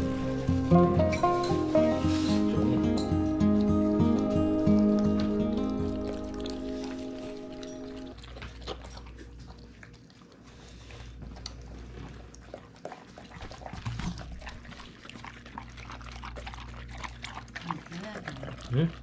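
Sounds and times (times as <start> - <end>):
dogs chewing and crunching: 0.0 - 19.0.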